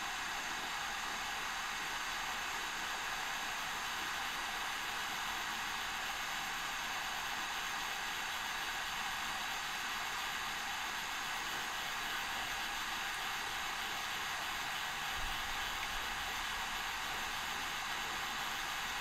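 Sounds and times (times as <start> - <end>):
hot air blower hissing: 0.0 - 19.0.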